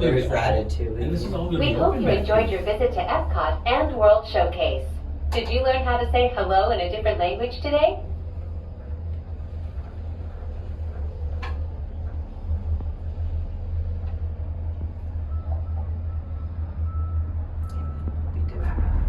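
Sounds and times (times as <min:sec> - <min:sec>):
gondola cabin rumble: 0:00.0 - 0:19.0.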